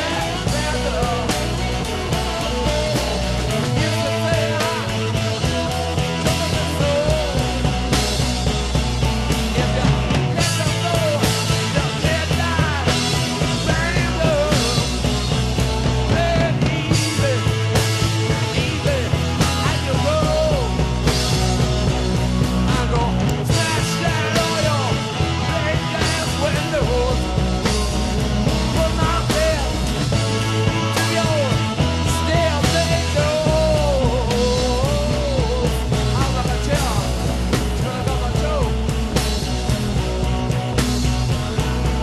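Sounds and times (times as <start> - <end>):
rock music with bass line: 0.0 - 42.0.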